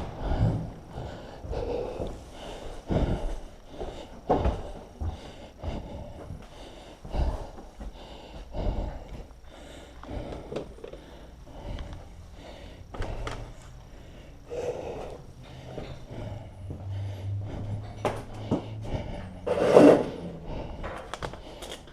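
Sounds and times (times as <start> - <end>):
man breathing heavily: 0.0 - 21.9.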